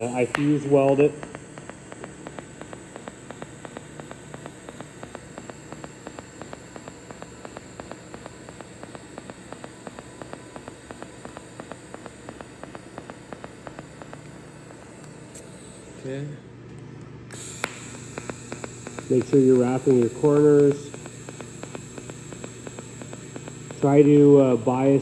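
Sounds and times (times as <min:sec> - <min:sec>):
welding arc hissing and ticking: 0:00.0 - 0:16.6, 0:17.3 - 0:25.0.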